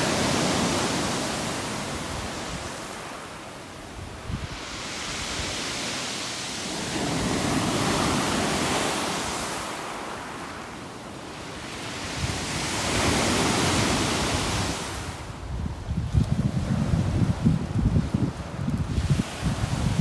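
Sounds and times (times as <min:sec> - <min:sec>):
waves breaking on shore: 0:00.0 - 0:20.0.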